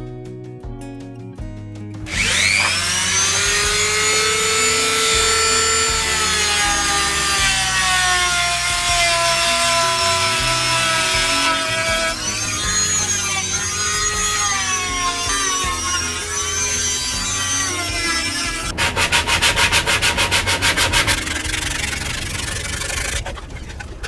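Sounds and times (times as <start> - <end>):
background music: 0.0 - 24.0
power tool whining on wood: 2.0 - 24.0.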